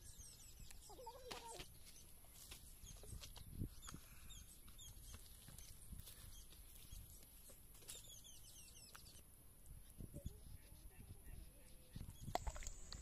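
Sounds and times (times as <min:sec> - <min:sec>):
faint high bird chirps: 0:00.0 - 0:09.2, 0:09.8 - 0:13.0.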